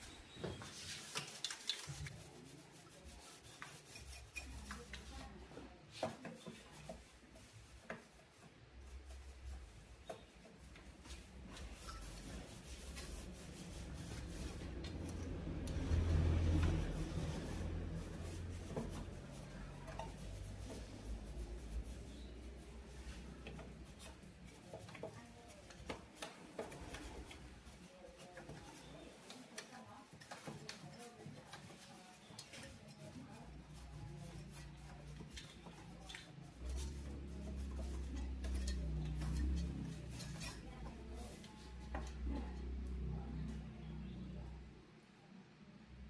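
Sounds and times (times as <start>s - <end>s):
rubbing and scraping: 0.0s - 43.6s.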